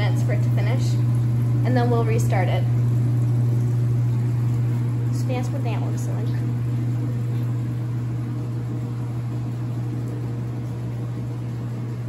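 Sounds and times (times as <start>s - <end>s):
laundromat machines humming: 0.0s - 12.0s.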